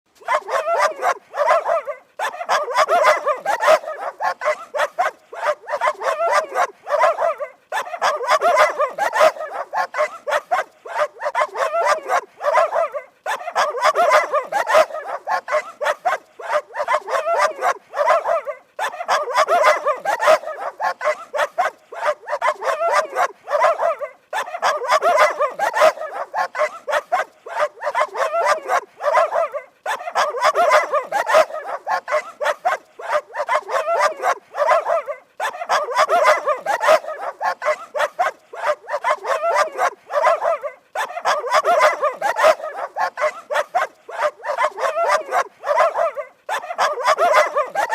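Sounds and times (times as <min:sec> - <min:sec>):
dog barking rapidly: 0:00.2 - 0:47.9.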